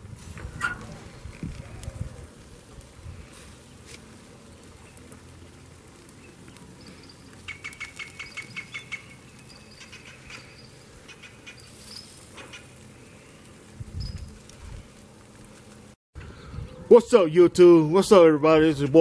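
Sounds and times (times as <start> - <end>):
steaks sizzling on grill: 0.0 - 15.9.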